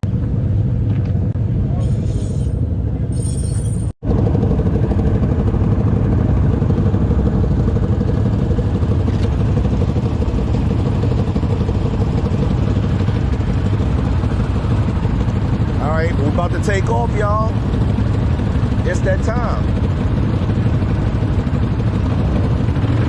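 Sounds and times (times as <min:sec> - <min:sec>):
atv engine running: 0:04.0 - 0:23.0.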